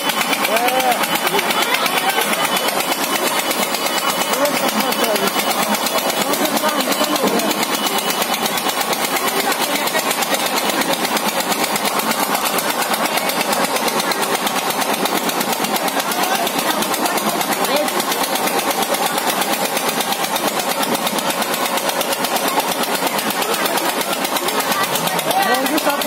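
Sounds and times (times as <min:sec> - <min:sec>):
fairground ride machinery running: 0:00.0 - 0:26.0.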